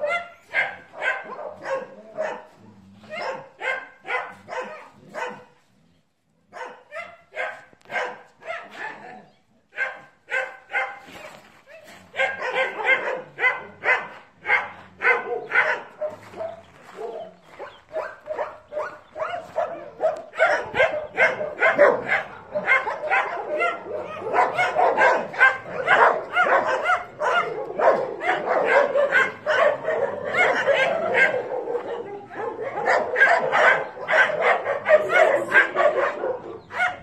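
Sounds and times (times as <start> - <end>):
dogs barking and yipping: 0.0 - 5.6, 6.5 - 37.0.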